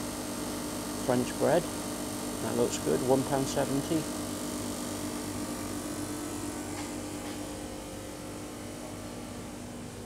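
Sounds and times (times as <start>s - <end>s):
chiller cabinets humming: 0.0s - 10.0s.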